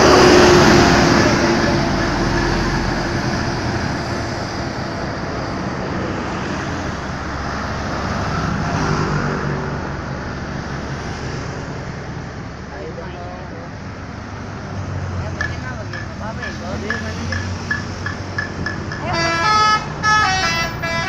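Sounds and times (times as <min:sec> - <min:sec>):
passing vehicles: 0:00.0 - 0:21.0.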